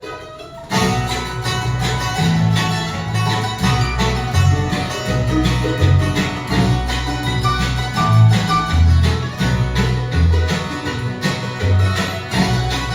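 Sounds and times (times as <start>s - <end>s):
bluegrass band playing: 0.0s - 12.9s.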